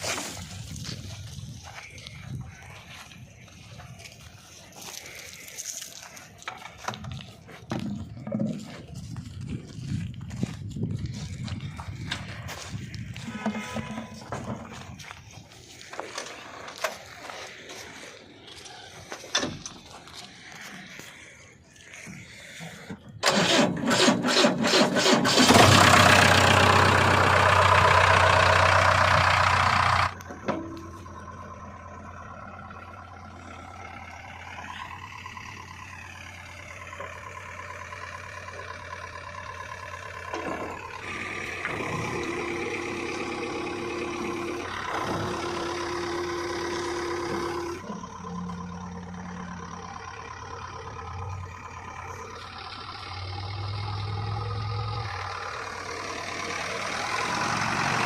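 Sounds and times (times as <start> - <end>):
diesel engine cranking: 0.0 - 58.0
diesel engine running: 0.0 - 58.0.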